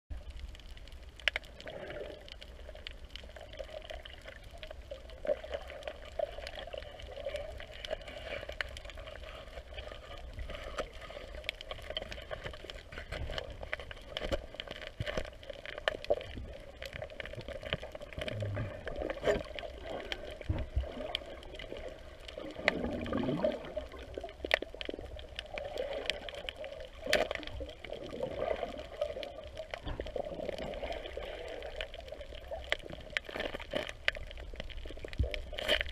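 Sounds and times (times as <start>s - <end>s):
muffled underwater water hiss: 0.2s - 35.9s.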